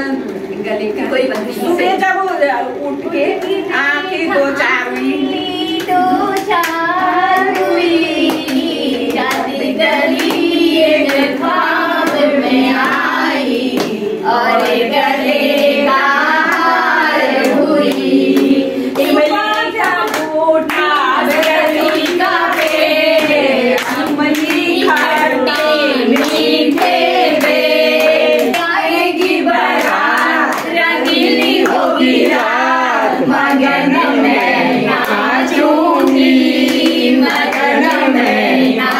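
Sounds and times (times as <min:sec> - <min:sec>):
women singing together: 0:00.0 - 0:38.9
hand clapping: 0:04.9 - 0:15.8, 0:16.4 - 0:38.9.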